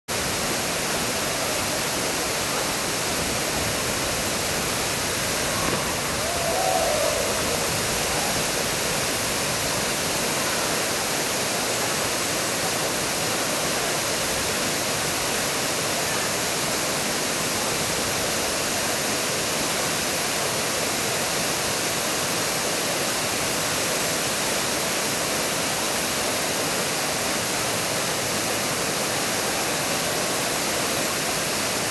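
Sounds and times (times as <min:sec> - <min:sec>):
waterfall roaring into pool: 0:00.1 - 0:31.9.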